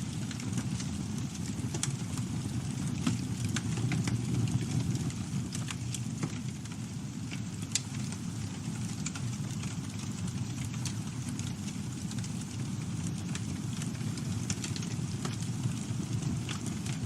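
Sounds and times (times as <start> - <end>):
campfire burning: 0.0 - 17.0.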